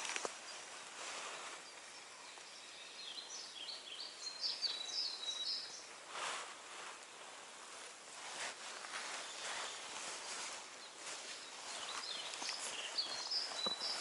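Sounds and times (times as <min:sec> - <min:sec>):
outdoor hiss: 0:00.0 - 0:14.0
rustle: 0:00.0 - 0:14.0
songbird chirping: 0:00.0 - 0:14.0.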